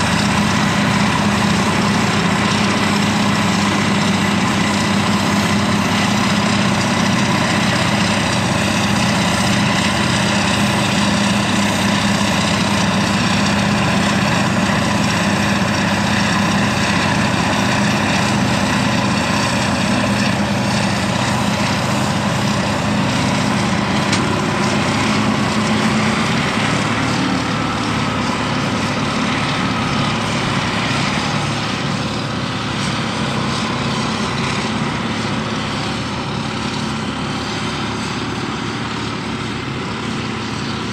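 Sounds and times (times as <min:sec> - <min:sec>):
diesel engines droning under load: 0:00.0 - 0:40.9.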